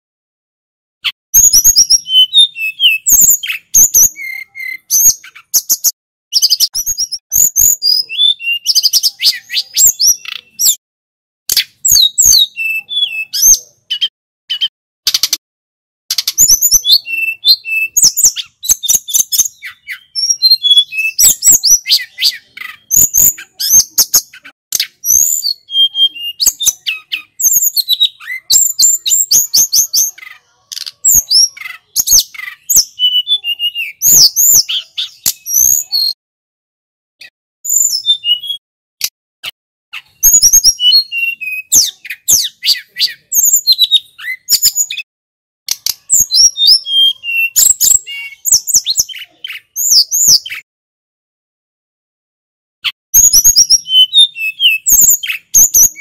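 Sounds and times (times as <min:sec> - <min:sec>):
bird warbling and chirping: 0:01.0 - 0:10.8, 0:11.5 - 0:15.4, 0:16.1 - 0:36.2, 0:37.2 - 0:38.6, 0:40.0 - 0:45.1, 0:45.7 - 0:50.7, 0:52.8 - 0:56.0.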